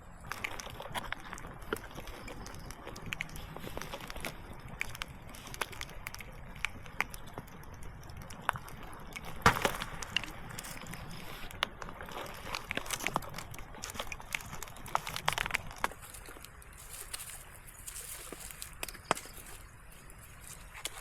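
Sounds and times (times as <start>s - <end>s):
small crackles and clicks: 0.0s - 21.0s.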